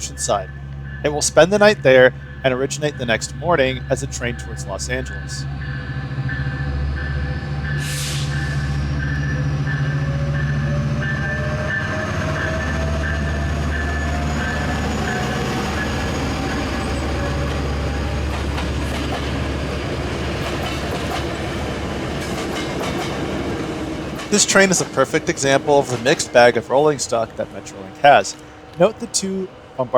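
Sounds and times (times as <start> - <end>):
train wheels clacking: 0.0 - 29.5
diesel locomotive engine drone: 0.0 - 29.9.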